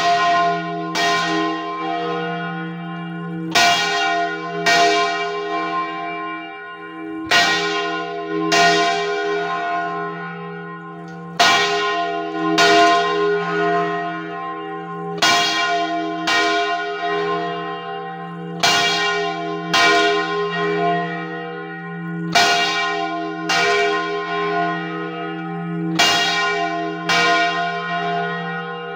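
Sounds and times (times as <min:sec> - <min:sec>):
church bell strokes: 0:00.0 - 0:28.9.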